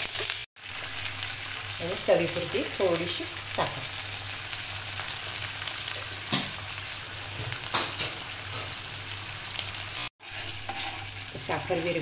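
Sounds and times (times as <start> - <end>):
oil and spices sizzling: 0.0 - 12.0.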